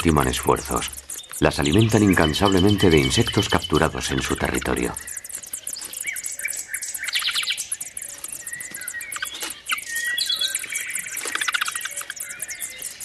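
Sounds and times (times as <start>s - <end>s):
nestlings chirping: 0.0s - 13.0s
thin whistled notes: 0.0s - 13.0s.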